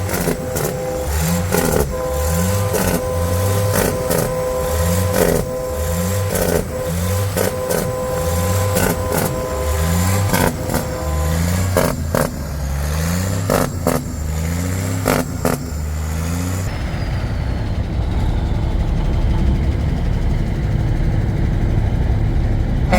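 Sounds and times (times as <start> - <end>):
diesel bus engine shifting gears: 0.0 - 22.9.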